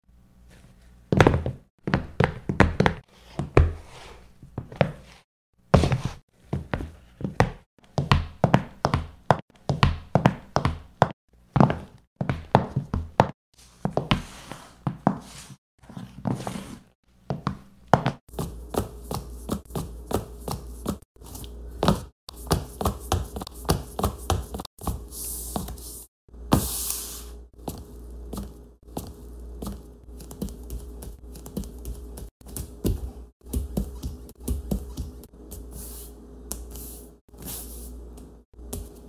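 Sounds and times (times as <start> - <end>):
footsteps on different surfaces: 0.6 - 39.0.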